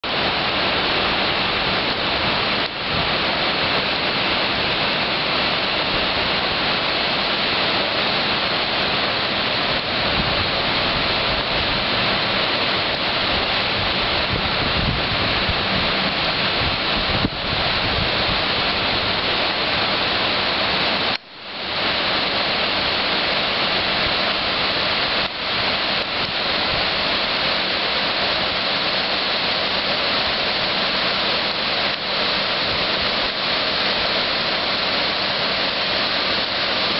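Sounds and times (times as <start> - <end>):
river rushing: 0.0 - 36.9.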